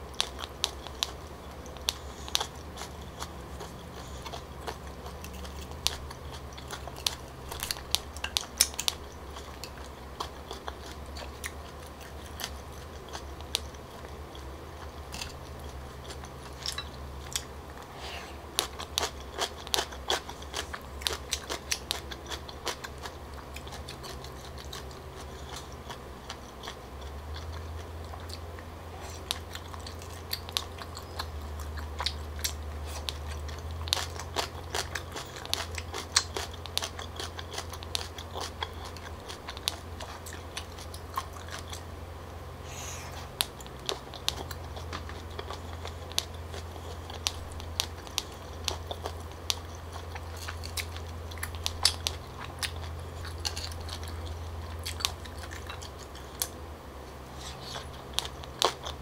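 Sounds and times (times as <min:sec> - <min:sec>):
person chewing: 0:00.0 - 0:59.0
steady low hum: 0:00.0 - 0:59.0.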